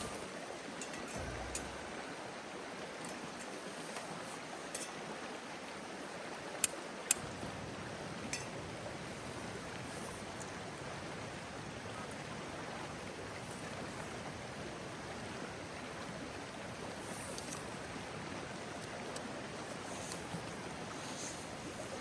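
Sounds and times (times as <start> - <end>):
river water running: 0.0 - 22.0.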